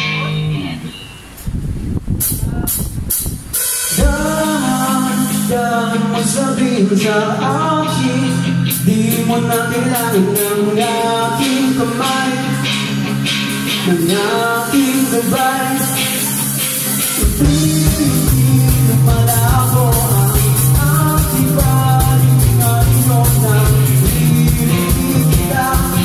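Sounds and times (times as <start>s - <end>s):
bass guitar: 0.0s - 26.0s
electric guitars: 2.2s - 26.0s
person singing: 4.0s - 26.0s.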